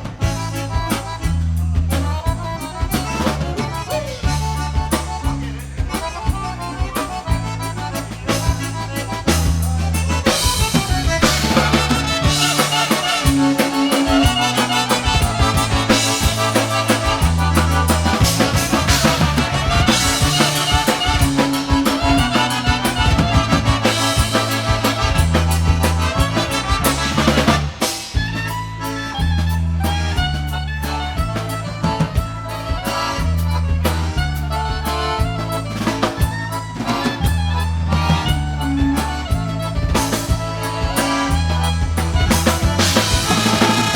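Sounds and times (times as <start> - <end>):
accordion lead: 0.0 - 43.9
polka band playing: 0.0 - 43.9.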